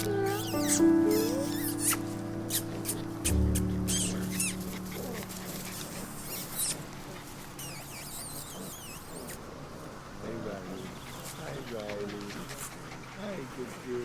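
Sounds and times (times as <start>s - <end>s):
puppies whining: 0.0s - 13.2s.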